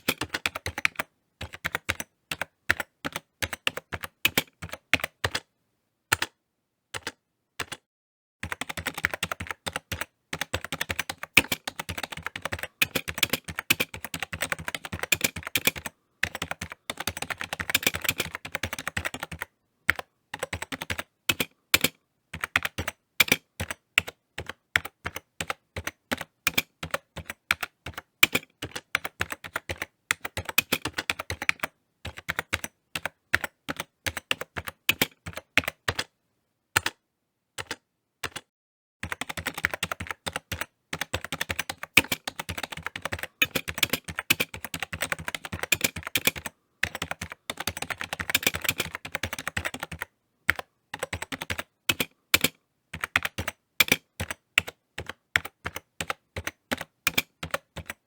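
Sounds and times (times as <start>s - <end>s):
typing on computer keyboard: 0.0s - 5.5s, 6.1s - 6.4s, 7.0s - 7.8s, 8.4s - 36.1s, 36.8s - 37.0s, 37.6s - 58.0s.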